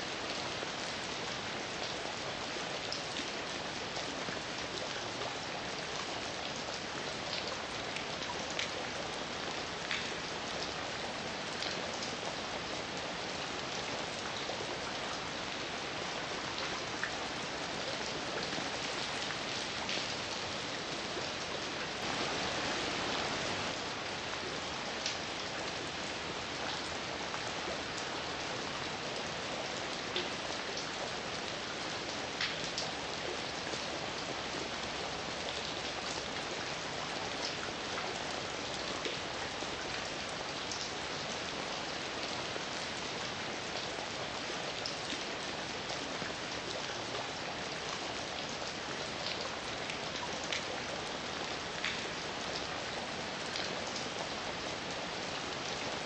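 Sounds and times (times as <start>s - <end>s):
heavy rain falling: 0.1s - 56.0s.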